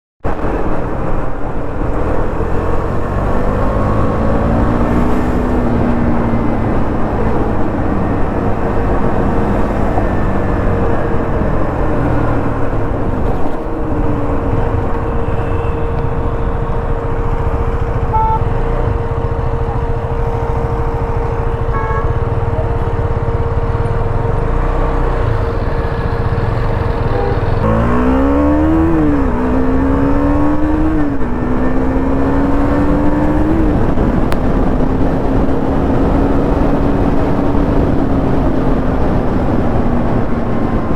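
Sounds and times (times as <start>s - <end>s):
motorcycle engine revving: 2.0s - 40.9s.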